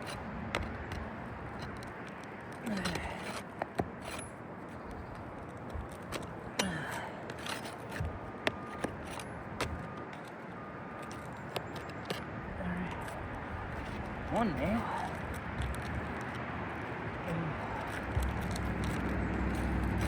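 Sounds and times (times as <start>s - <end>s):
roof shingles clicking and scraping: 0.0s - 20.0s.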